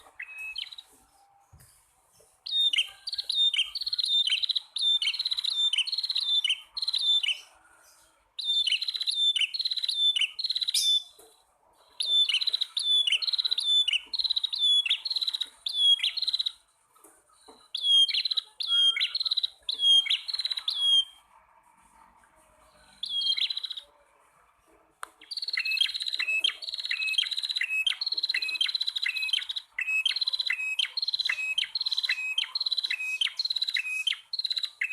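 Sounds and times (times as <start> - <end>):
bird chirping: 0.0 - 34.9.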